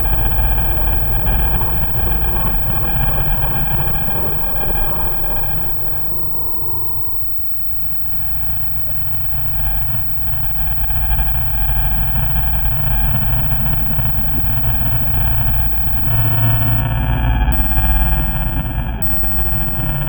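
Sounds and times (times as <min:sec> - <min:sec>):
faint eerie drawn-out tones: 0:00.0 - 0:16.8.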